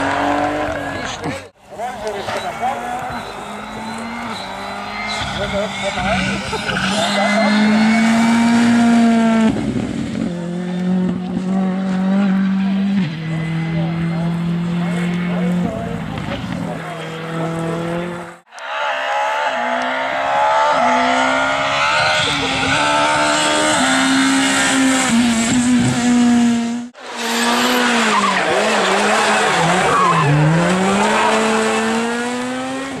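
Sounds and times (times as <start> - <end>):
rally car engine revving: 0.0 - 33.0.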